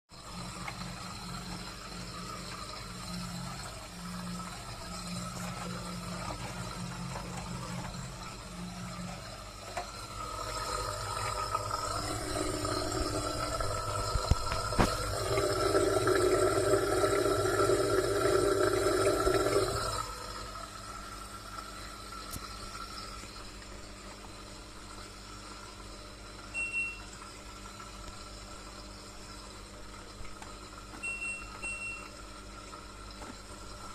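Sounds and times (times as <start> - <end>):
washing machine running: 0.1 - 33.9.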